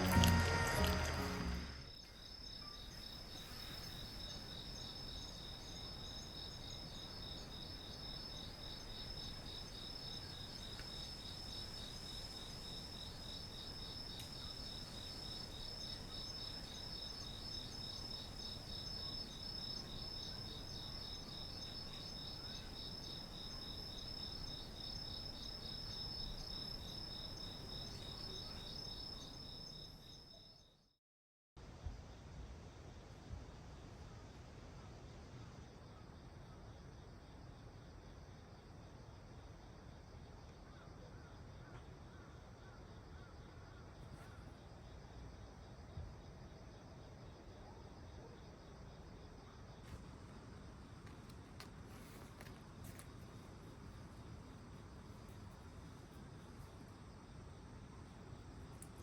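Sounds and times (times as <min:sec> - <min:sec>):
crickets chirping: 0:00.0 - 0:30.9, 0:35.7 - 0:59.0.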